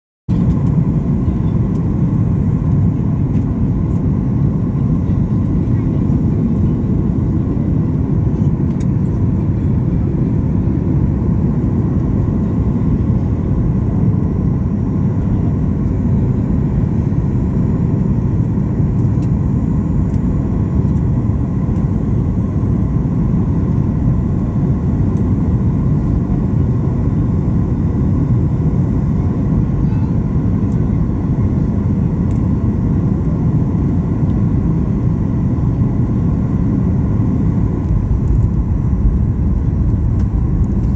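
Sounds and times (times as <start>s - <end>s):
airliner engines rumbling: 0.3s - 40.9s.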